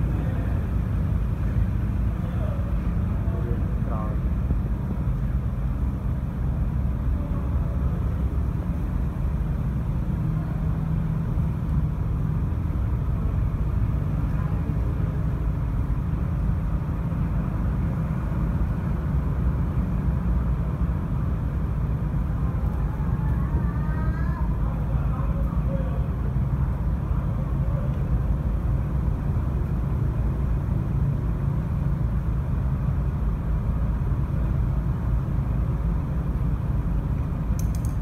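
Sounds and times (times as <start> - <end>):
faint hum: 0.0 - 38.0
steady low rumble: 0.0 - 38.0.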